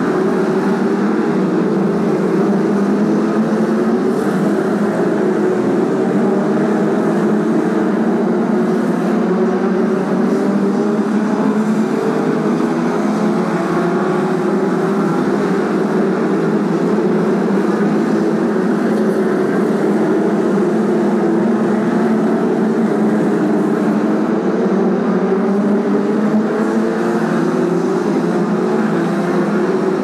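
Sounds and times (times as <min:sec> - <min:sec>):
stock car engines racing: 0:00.0 - 0:30.0.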